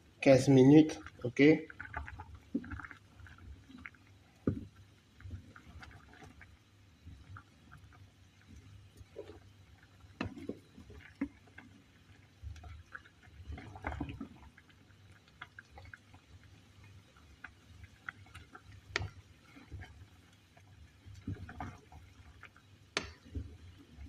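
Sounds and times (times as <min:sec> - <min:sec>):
pot simmering bubbling: 0:00.0 - 0:24.0.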